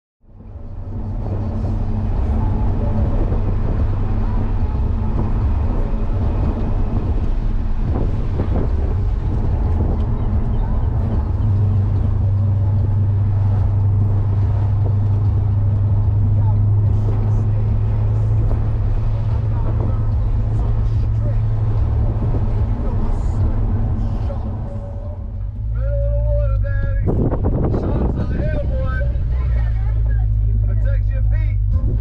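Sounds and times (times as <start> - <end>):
car engine droning: 0.2 - 32.0
road noise: 0.2 - 32.0.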